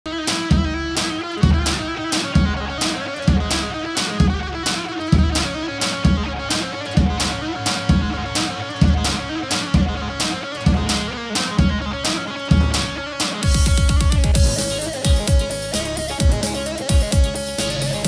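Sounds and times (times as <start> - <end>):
heavy drum beat: 0.1 - 18.0
plucked electric string instrument: 0.1 - 18.0.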